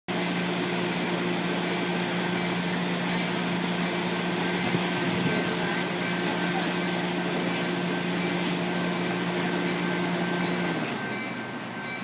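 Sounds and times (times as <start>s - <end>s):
diesel locomotive engine hum: 0.1s - 12.0s.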